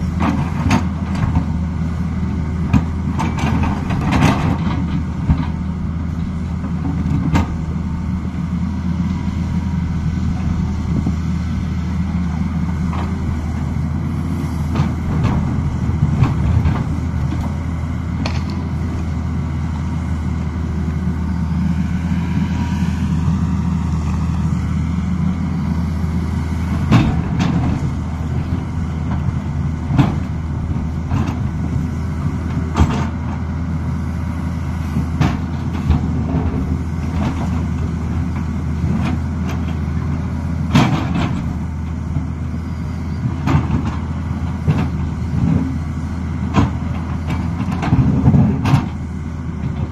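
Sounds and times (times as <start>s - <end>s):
engine whine: 0.0s - 49.9s
excavator diesel engine running: 0.0s - 49.9s.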